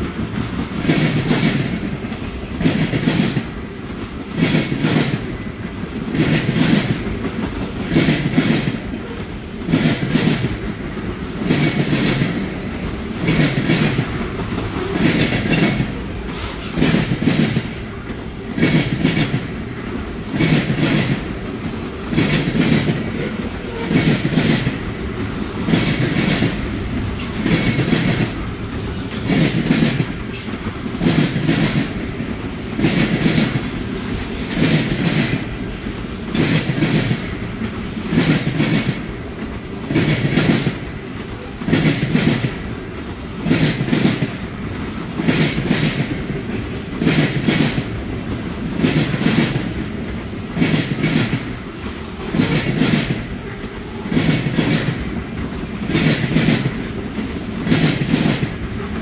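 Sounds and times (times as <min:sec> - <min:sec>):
train rumble: 0:00.0 - 0:59.0
train wheels clicking over rail joints: 0:00.0 - 0:59.0.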